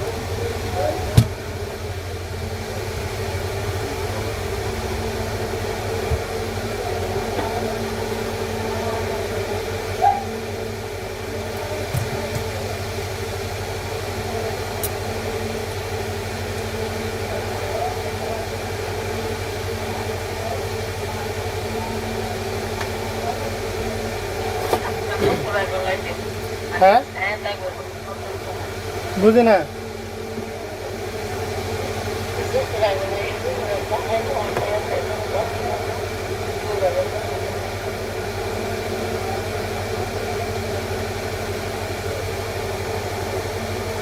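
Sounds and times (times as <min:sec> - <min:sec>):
steady mechanical hum: 0:00.0 - 0:44.0.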